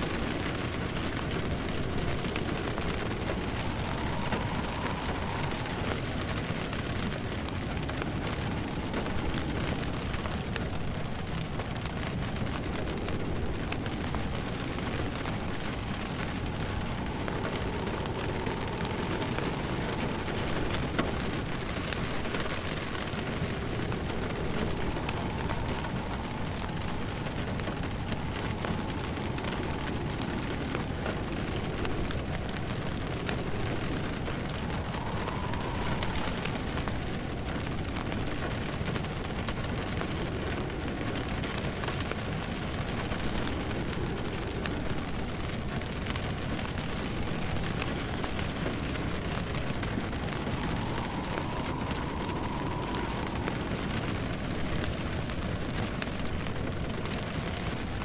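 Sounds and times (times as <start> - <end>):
faint wind whistle: 0.0 - 58.0
fireplace crackling: 0.0 - 58.0
steady rain: 0.0 - 58.0.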